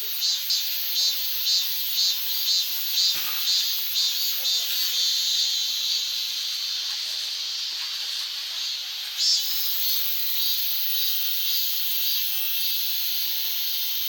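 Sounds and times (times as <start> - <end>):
constant hiss: 0.0 - 14.0
night insects chirping: 0.0 - 14.0.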